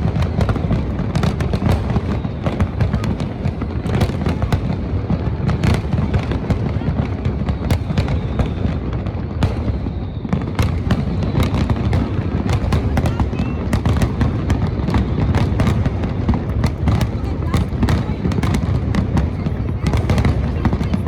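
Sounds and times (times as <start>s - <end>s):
fireworks booming: 0.0s - 21.0s
fireworks cracking and crackling: 0.0s - 21.0s.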